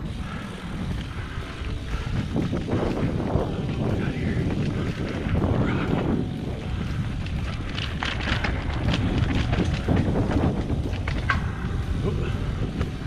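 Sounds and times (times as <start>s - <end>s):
bike rattling: 0.0s - 13.0s
bike tyre noise: 0.0s - 13.0s
wind rumbling on microphone: 0.0s - 13.0s.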